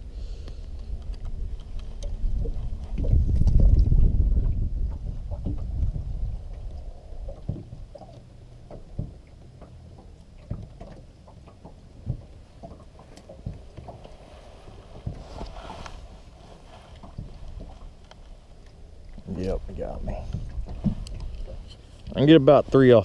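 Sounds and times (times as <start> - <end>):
low rumble of wind and water: 0.0 - 23.0
waves slapping against boat hull: 0.5 - 23.0.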